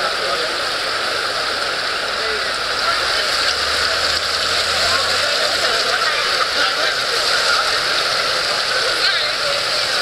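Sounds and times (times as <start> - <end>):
faint crowd chatter: 0.0 - 10.0
water running over paving: 0.0 - 10.0.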